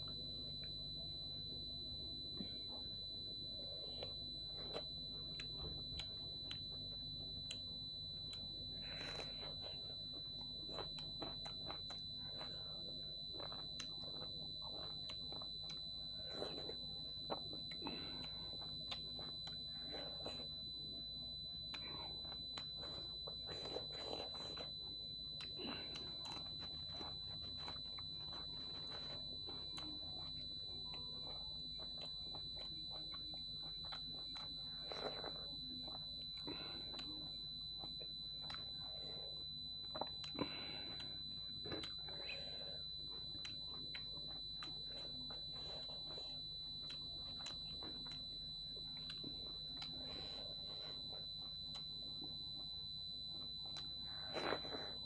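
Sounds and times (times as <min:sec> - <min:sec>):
steady high-pitched whine: 0:00.0 - 0:55.0
chewing and lip smacks: 0:03.6 - 0:55.0.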